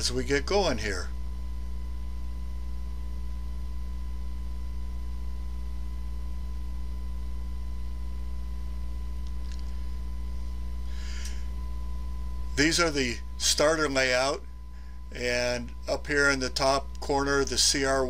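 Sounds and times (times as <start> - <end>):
electrical mains hum: 0.0 - 18.0
faint high steady tones: 0.0 - 18.0.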